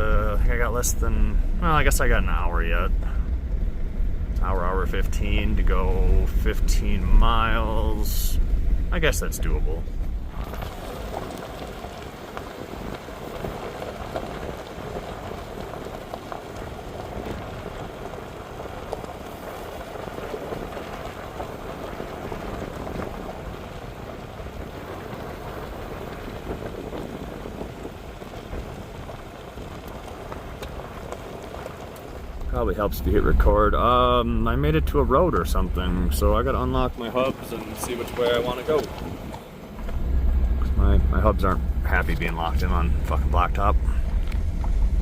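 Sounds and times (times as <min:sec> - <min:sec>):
stones ticking and rattling: 0:00.0 - 0:45.0
tyres on gravel: 0:00.0 - 0:45.0.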